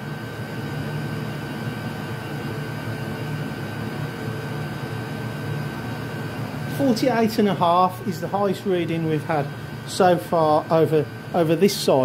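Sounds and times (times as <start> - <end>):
air heater fan and burner rushing: 0.0 - 12.0
thin high whine: 0.0 - 12.0.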